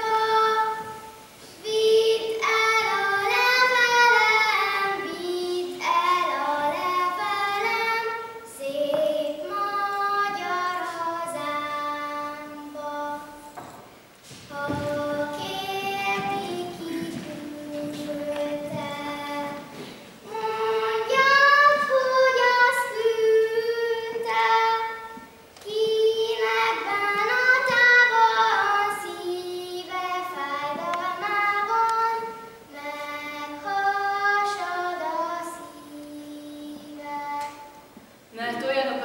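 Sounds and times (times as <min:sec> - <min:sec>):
child singing: 0:00.0 - 0:13.7, 0:14.5 - 0:37.8.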